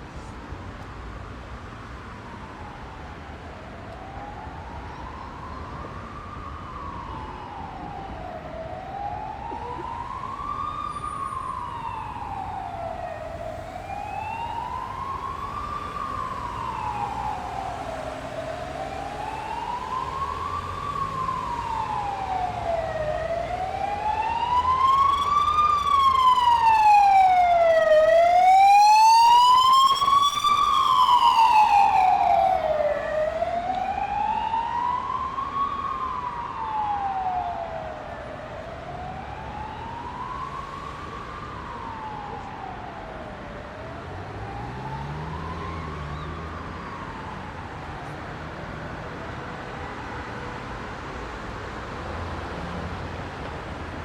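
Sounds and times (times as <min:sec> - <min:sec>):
road traffic hum: 0:00.0 - 0:54.0
emergency siren wailing: 0:02.1 - 0:54.0.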